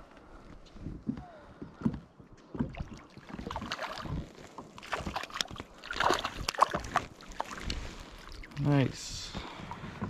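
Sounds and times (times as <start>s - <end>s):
water splashing and sloshing: 1.1s - 10.0s.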